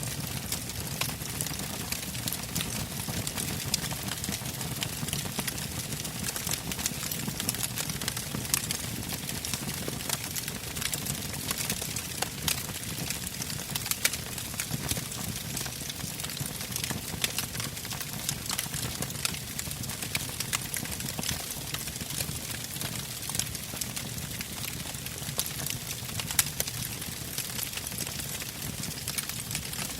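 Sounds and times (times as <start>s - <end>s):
burning logs crackling: 0.0s - 29.9s.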